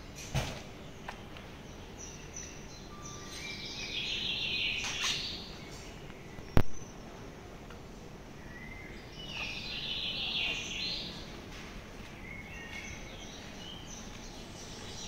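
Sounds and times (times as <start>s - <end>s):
birds chirping: 0.0s - 7.2s, 7.8s - 15.0s
background noise: 0.0s - 15.0s.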